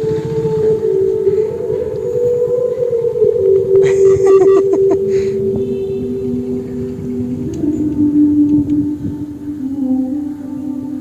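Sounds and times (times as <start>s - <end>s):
droning held tones: 0.0s - 11.0s.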